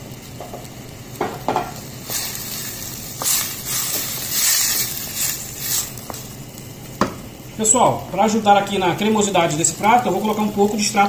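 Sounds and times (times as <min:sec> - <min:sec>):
sizzling hiss: 0:00.0 - 0:11.0.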